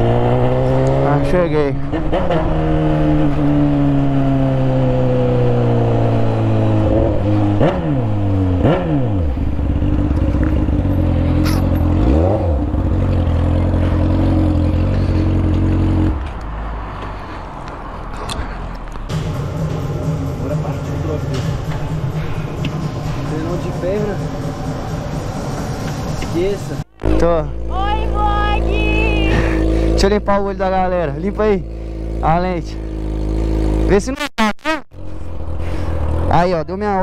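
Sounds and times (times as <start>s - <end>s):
motorcycle engine slowing and idling: 0.0s - 34.0s, 35.0s - 37.0s.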